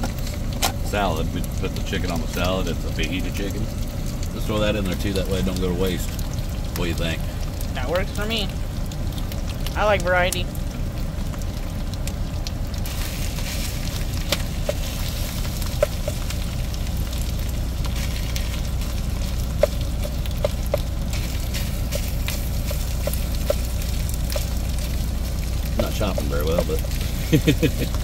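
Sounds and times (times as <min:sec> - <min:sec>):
meat sizzling in a skillet: 0:00.0 - 0:28.0.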